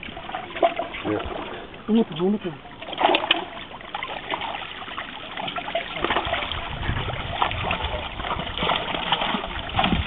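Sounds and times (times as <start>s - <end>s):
pond water splashing and trickling: 0.0s - 10.0s.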